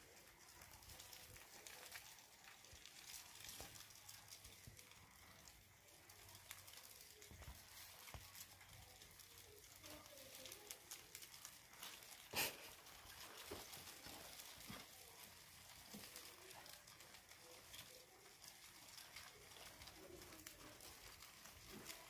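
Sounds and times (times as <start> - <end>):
roaches eating and crawling: 0.0 - 22.0.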